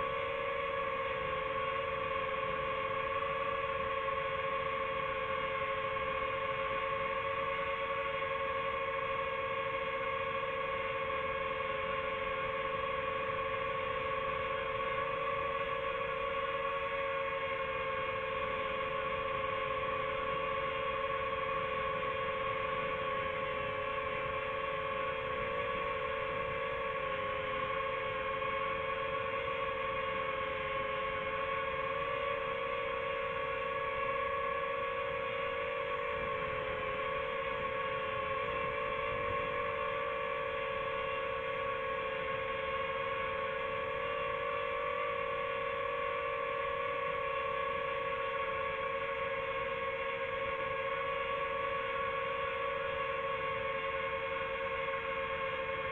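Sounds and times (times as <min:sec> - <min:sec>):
drone hovering hum: 0:00.0 - 0:55.9.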